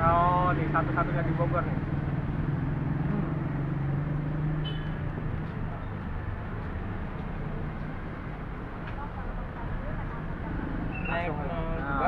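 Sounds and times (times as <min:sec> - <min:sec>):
traffic noise: 0:00.0 - 0:12.0
vehicle engine humming: 0:00.0 - 0:12.0.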